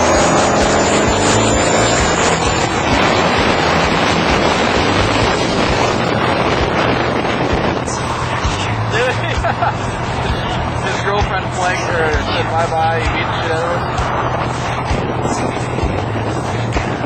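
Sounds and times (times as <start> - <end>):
vehicle accelerating hard: 0.0 - 17.0
wind buffeting microphone: 0.0 - 17.0.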